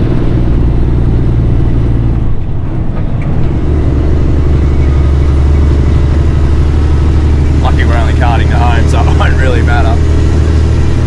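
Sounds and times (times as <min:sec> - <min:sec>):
large diesel engine running: 0:00.0 - 0:11.0.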